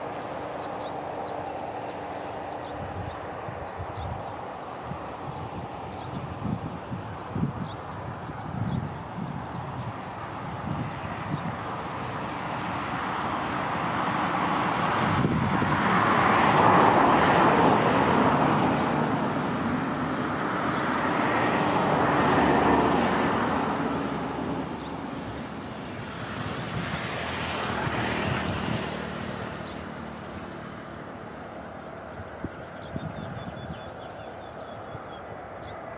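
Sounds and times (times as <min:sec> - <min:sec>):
road vehicles passing: 0:00.0 - 0:35.9.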